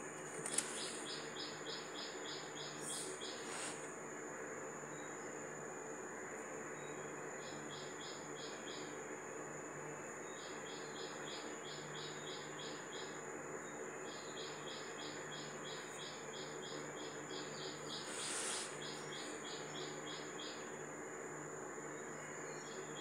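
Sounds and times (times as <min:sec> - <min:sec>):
faint high whine: 0:00.0 - 0:23.0
insect chirping: 0:00.0 - 0:23.0.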